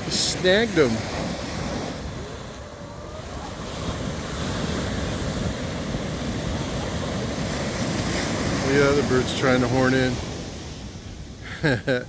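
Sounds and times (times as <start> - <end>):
wind buffeting microphone: 0.0 - 11.4
surf washing onto beach: 0.0 - 12.0.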